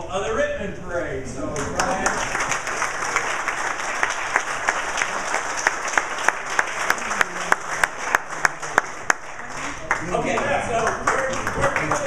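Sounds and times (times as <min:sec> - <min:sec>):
roomful of people applauding: 0:01.6 - 0:12.0.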